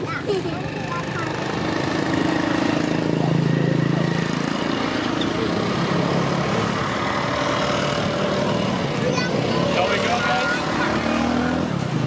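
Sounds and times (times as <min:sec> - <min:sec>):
motor vehicle engine hum: 0:00.0 - 0:12.0.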